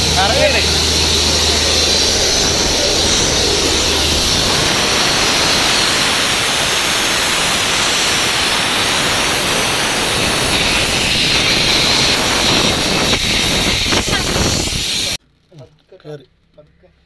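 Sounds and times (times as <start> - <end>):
compressed air hissing: 0.0 - 15.2.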